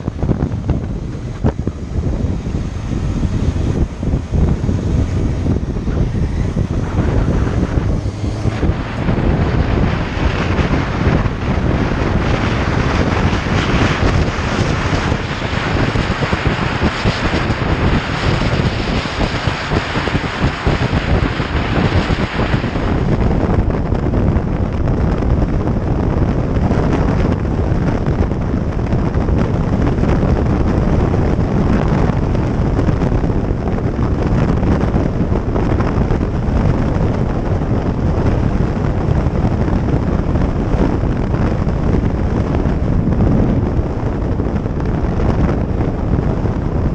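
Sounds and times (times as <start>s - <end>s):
motorcycle engine: 0.0s - 46.9s
road noise: 0.0s - 46.9s
wind rushing over microphone: 0.0s - 46.9s.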